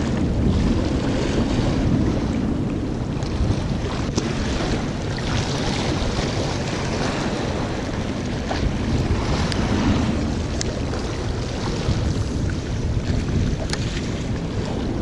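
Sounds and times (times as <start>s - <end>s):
waves washing against rocks: 0.0s - 15.0s
wind rumbling on microphone: 0.0s - 15.0s.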